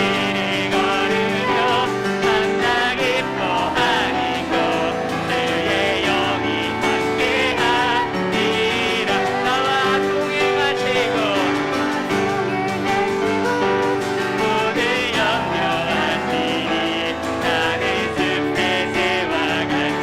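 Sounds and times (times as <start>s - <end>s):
group singing a hymn: 0.0s - 20.0s
piano accompaniment: 0.0s - 20.0s.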